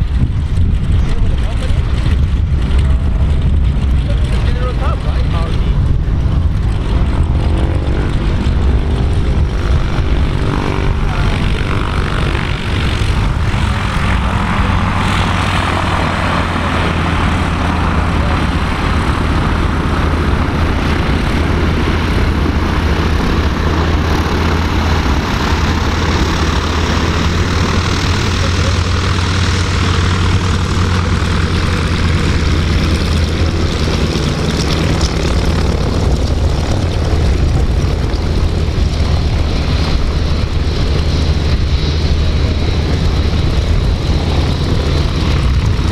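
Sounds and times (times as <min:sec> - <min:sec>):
jet engines rumbling: 0:00.0 - 0:45.9
jet rushing noise: 0:00.0 - 0:45.9.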